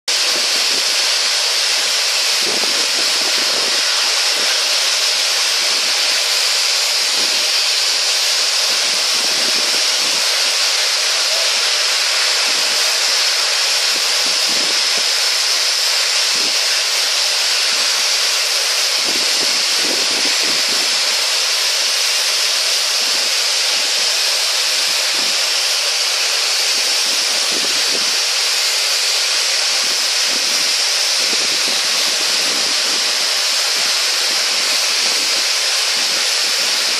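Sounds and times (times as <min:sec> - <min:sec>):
steam locomotive hissing steam: 0:00.1 - 0:36.9.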